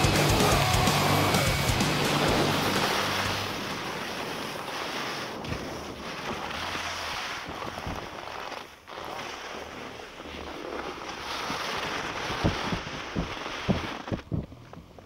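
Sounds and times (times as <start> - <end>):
skis sliding over snow: 0.0 - 15.0.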